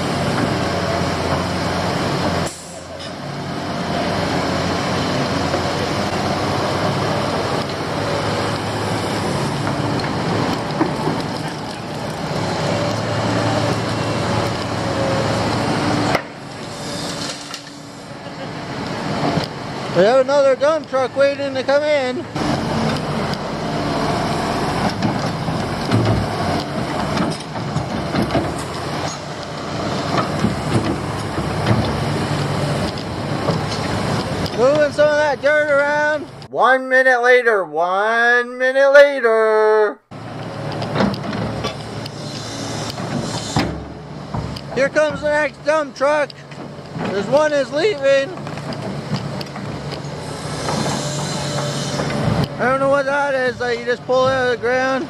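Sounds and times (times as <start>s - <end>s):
diesel construction machinery running: 0.0s - 55.0s.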